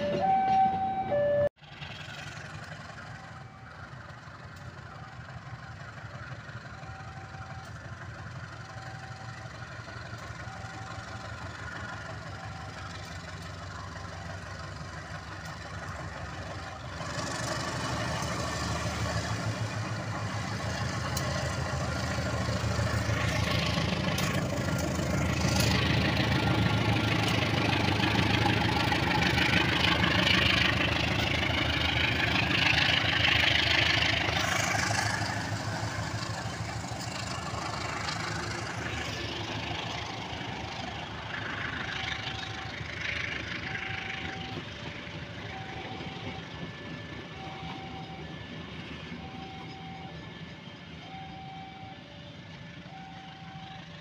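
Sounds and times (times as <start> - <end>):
locomotive engine rumbling: 0.0 - 54.0.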